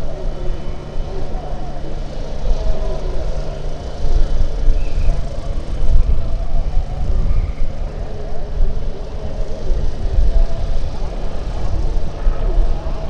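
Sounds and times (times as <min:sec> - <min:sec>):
loud uneven low rumble: 0:00.0 - 0:13.0
propeller airplane engine running: 0:00.0 - 0:13.0.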